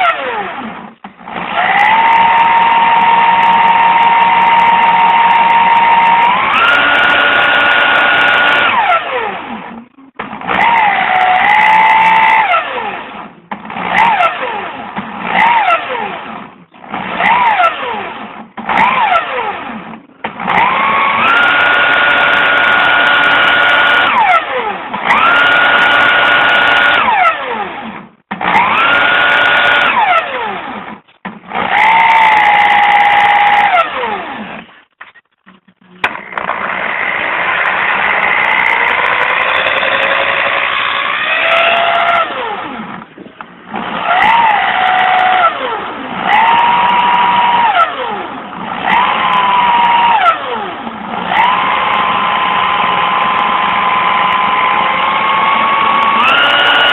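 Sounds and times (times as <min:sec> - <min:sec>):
alternator motor whine: 0:00.0 - 0:56.9.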